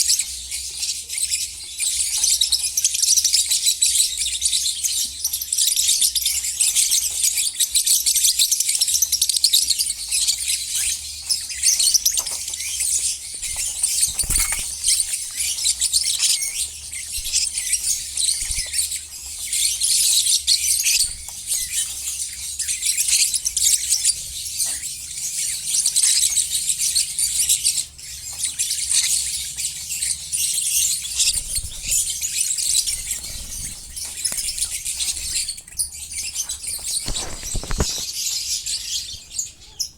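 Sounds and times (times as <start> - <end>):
birds chattering and chirping: 0.0 - 39.9.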